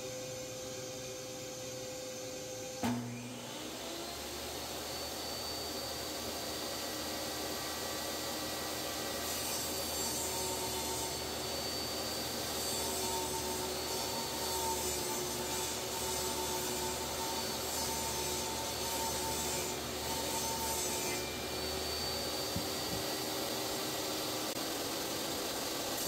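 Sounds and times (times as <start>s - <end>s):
table saw motor running: 0.0s - 26.0s
saw cutting wood board: 0.1s - 26.0s.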